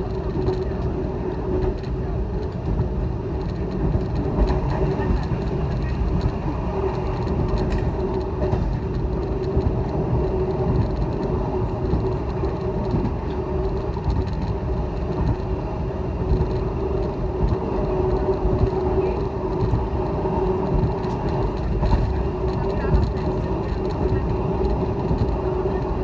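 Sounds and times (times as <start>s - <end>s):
constant hum: 0.0s - 26.0s
train wheels rumbling on rails: 0.0s - 26.0s.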